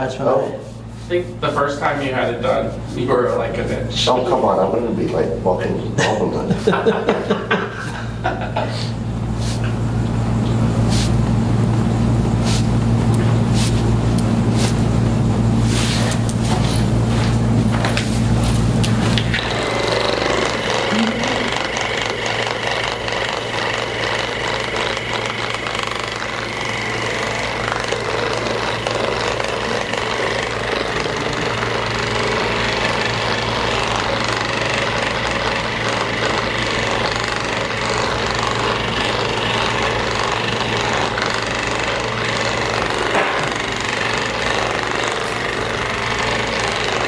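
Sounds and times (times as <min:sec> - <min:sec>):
electric massager hammering: 0:03.6 - 0:47.0.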